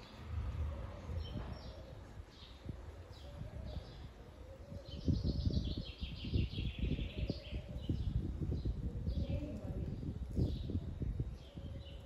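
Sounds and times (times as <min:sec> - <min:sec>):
low rumbling noise: 0:00.0 - 0:12.0
small birds chirping and twittering: 0:00.0 - 0:12.0.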